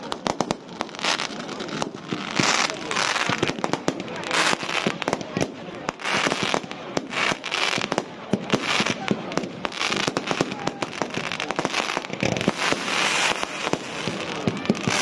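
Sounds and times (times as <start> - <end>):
firework fountains hissing: 0.0 - 15.0
fireworks bangs and crackles: 0.0 - 15.0.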